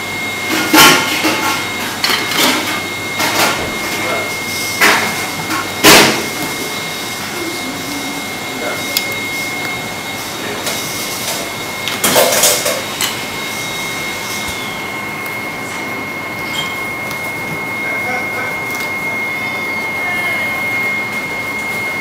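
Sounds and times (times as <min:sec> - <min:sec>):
high whine: 0:00.0 - 0:22.0.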